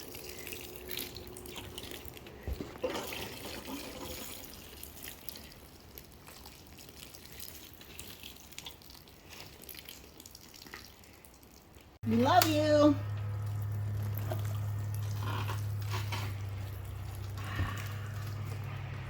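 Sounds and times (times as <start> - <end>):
faint water running and dripping: 0.0 - 19.0.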